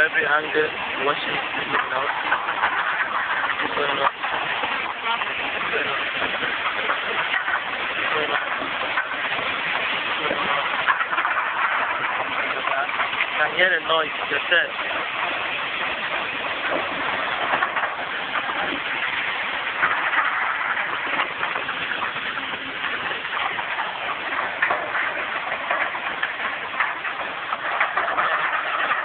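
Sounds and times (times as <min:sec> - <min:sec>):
gravel washing machinery clattering: 0:00.0 - 0:29.0.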